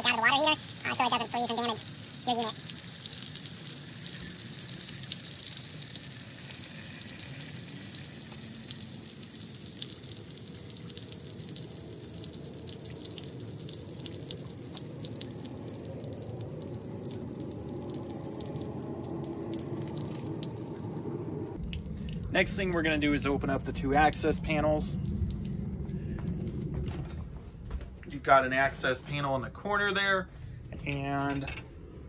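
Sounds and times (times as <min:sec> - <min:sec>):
water pouring from tank port: 0:00.0 - 0:26.5.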